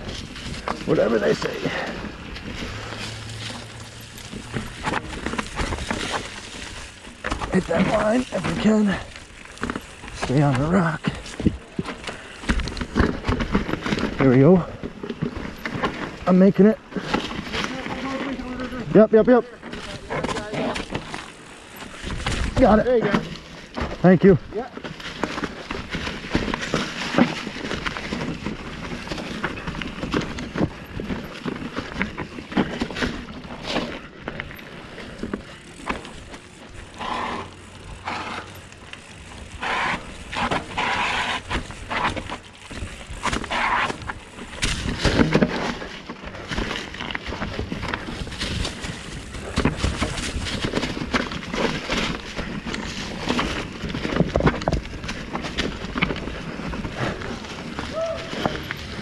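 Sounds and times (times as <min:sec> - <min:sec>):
bike frame rattling: 0:00.0 - 0:59.0
bike tyres crunching over rock: 0:00.0 - 0:59.0.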